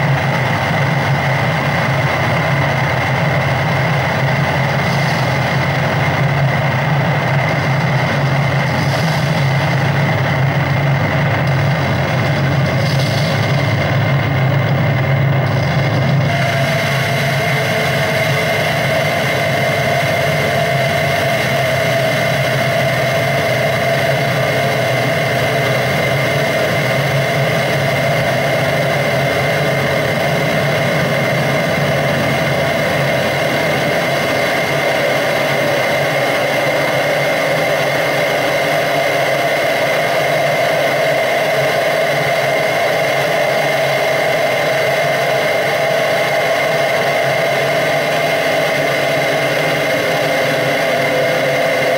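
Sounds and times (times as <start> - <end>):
noisy electronic drone: 0.0 - 51.9.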